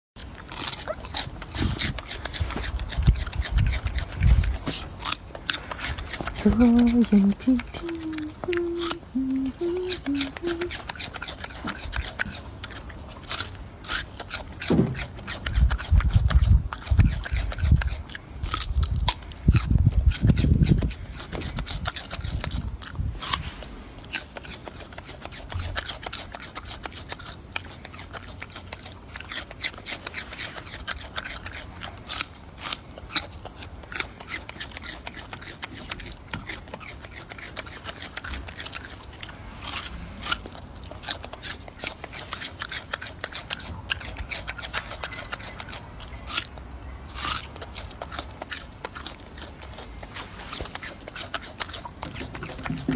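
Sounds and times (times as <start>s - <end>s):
monkey chewing berries: 0.2s - 52.9s.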